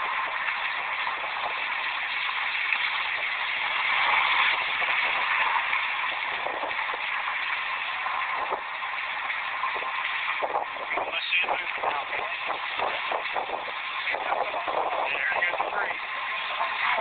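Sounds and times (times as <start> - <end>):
water gushing: 0.0 - 17.0.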